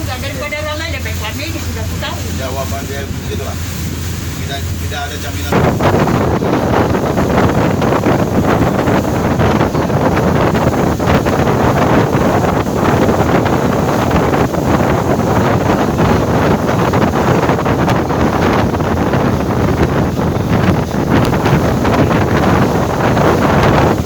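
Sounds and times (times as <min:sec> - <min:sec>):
boat engine running: 0:00.0 - 0:24.0
water noise: 0:00.0 - 0:24.0
wind buffeting microphone: 0:00.0 - 0:24.0.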